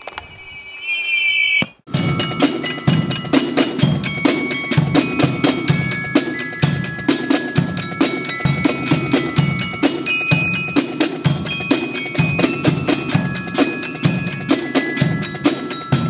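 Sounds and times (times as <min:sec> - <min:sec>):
glockenspiel notes: 0:00.3 - 0:16.0
snare drums rattling: 0:01.9 - 0:16.0.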